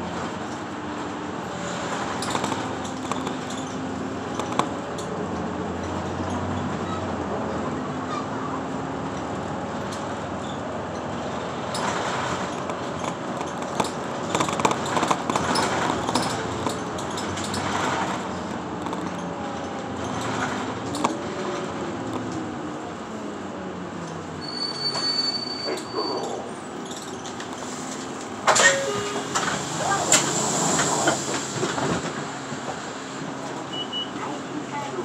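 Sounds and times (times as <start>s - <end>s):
bus running noise: 0.0s - 35.0s
rattling inside bus: 0.0s - 35.0s.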